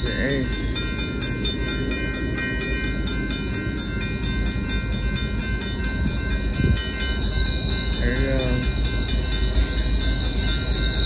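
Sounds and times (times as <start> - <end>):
crossing bells ringing: 0.0 - 11.0
freight train rumble: 0.0 - 11.0.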